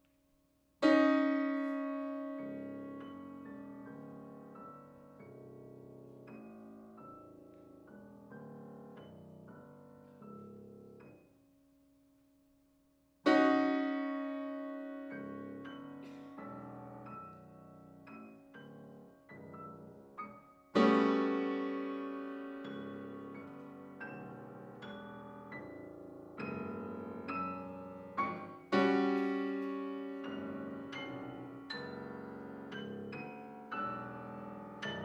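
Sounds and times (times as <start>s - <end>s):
solo grand piano: 0.0s - 35.0s.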